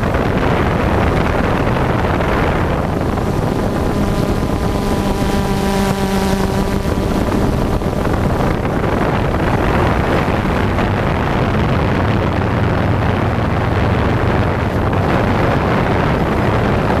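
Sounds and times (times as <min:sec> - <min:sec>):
drone motors and propellers: 0:00.0 - 0:17.0
wind buffeting microphone: 0:00.0 - 0:17.0.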